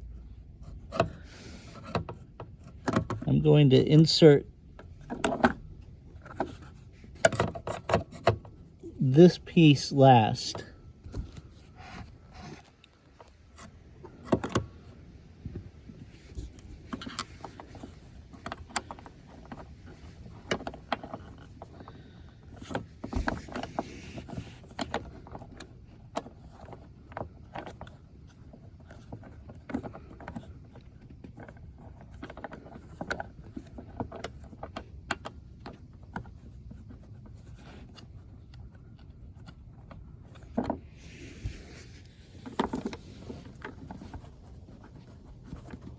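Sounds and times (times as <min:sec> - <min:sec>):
plastic parts clicking and knocking: 0:00.7 - 0:03.4, 0:04.7 - 0:09.0, 0:11.0 - 0:41.0, 0:42.3 - 0:45.9.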